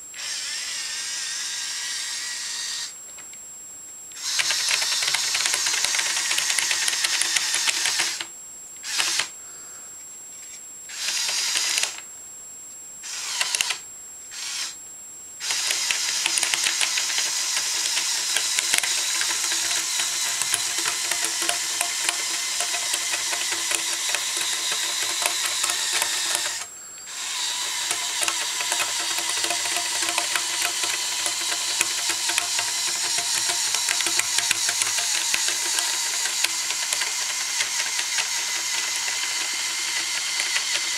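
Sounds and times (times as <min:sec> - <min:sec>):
toy electric motors and gears whirring: 0:00.2 - 0:03.0, 0:04.2 - 0:09.3, 0:10.9 - 0:12.0, 0:13.0 - 0:14.8, 0:15.4 - 0:40.9.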